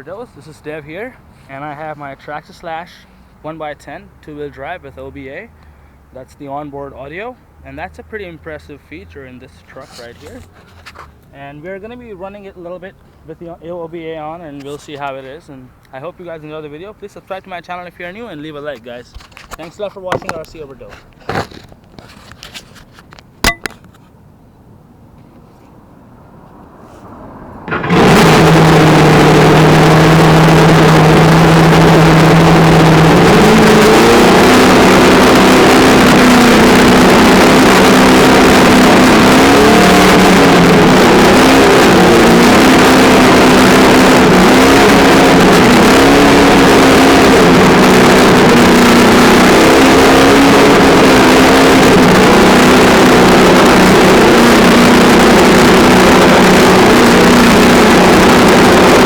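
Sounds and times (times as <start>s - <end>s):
simulated engine sound from speaker: 0.0s - 10.5s, 11.3s - 21.0s, 27.7s - 59.0s.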